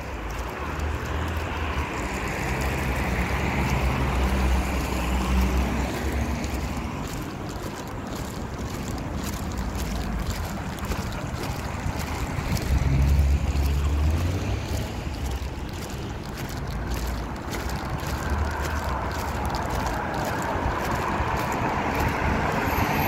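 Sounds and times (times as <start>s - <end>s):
outdoor street noise: 0.0s - 23.0s
wind buffeting microphone: 0.0s - 23.0s.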